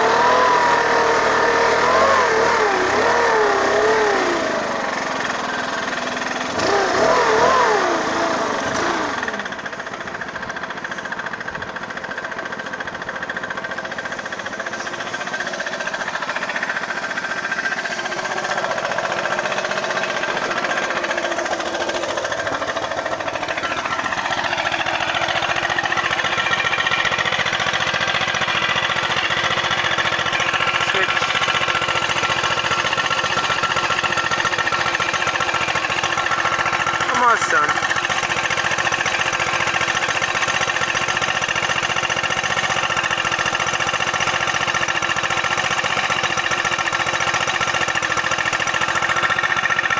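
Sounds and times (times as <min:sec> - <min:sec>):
leaf blower engine running: 0:00.0 - 0:49.9.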